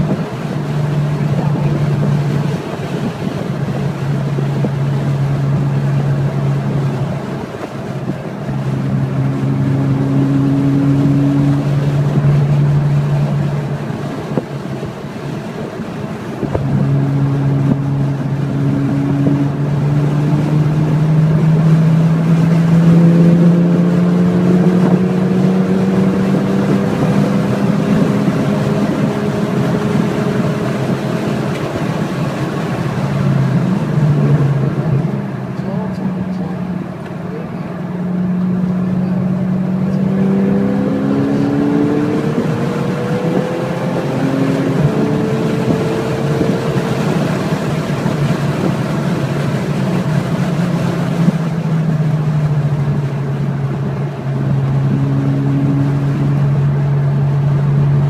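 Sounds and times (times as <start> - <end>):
wind noise on microphone: 0.0 - 35.3, 39.1 - 58.0
engine running: 0.0 - 58.0.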